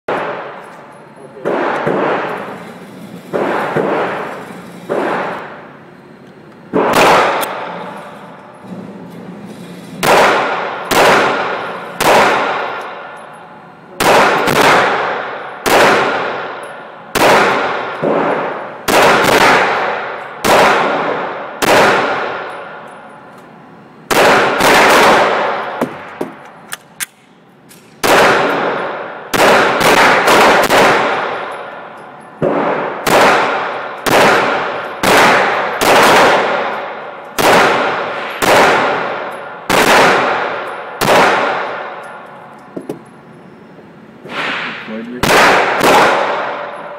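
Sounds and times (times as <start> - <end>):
pistol shots with ringing echo: 0.1 - 0.7, 1.4 - 5.7, 6.7 - 8.0, 9.9 - 23.3, 24.0 - 43.0, 44.3 - 46.9.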